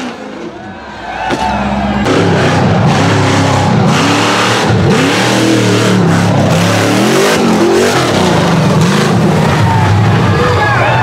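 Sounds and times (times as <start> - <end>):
buggy engine revving hard: 1.3 - 10.7.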